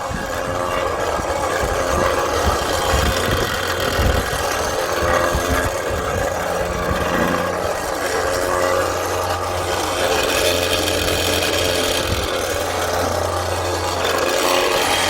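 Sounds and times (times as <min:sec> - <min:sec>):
machinery engine drone: 0:00.0 - 0:15.0.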